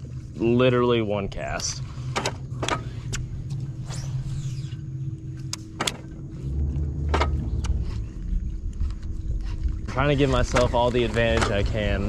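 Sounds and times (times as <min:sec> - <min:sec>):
electric trolling motor whine: 0:00.0 - 0:12.0.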